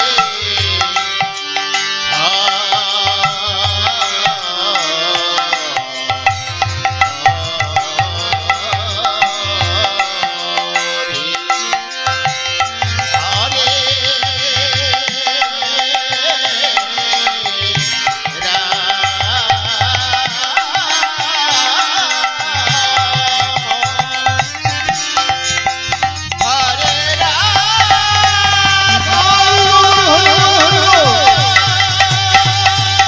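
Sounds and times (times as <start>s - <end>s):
person singing: 0.0s - 11.9s, 12.5s - 25.4s, 26.3s - 33.0s
hand drum rhythmic patterns: 0.0s - 33.0s
harmonium steady tones: 0.0s - 33.0s.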